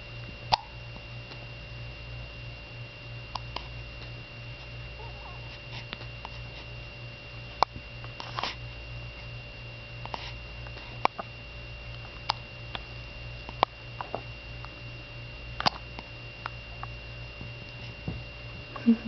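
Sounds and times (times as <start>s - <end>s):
faint high whine: 0.0s - 19.0s
low electrical hum: 0.0s - 19.0s.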